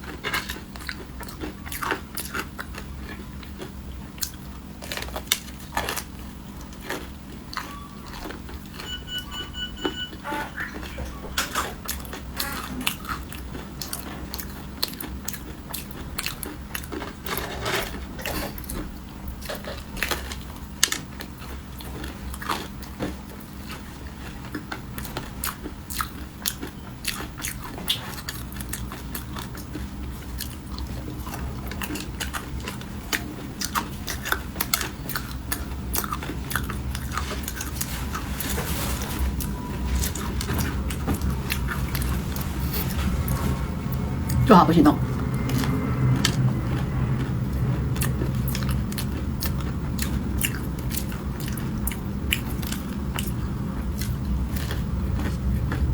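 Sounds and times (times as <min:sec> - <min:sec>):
crunchy snack chewing: 0:00.0 - 0:08.9, 0:10.6 - 0:44.4, 0:45.0 - 0:55.9.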